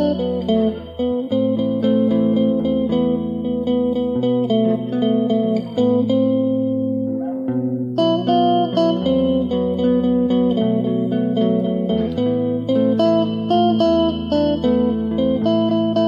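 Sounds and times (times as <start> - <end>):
electric guitar lead: 0.0 - 16.0
power chord backing: 0.0 - 16.0.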